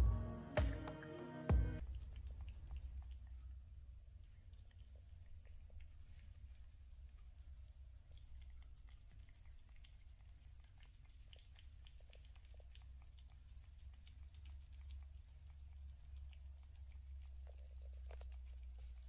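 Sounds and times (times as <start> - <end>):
cat chewing food: 1.8 - 19.0.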